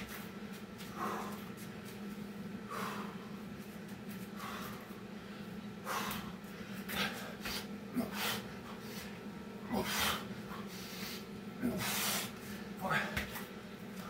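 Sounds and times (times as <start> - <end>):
steady low hum: 0.0 - 14.0
man breathing heavily: 0.8 - 14.0.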